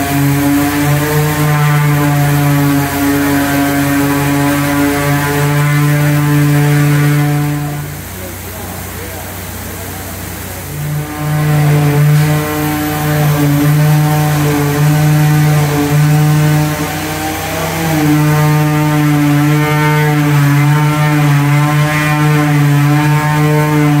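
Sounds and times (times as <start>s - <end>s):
concrete vibrator humming: 0.0s - 24.0s.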